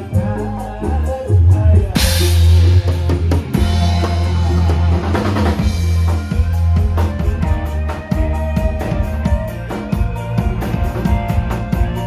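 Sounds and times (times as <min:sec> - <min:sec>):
deep steady bass: 0:00.0 - 0:12.0
drum kit snare and cymbals: 0:00.0 - 0:12.0.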